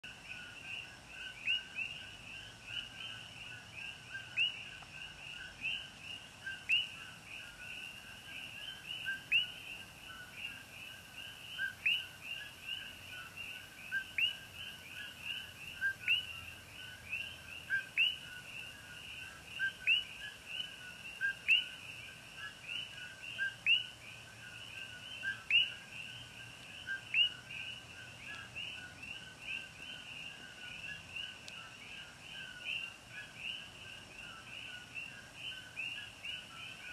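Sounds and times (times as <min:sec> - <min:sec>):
chorus of frogs calling: 0:00.1 - 0:36.9.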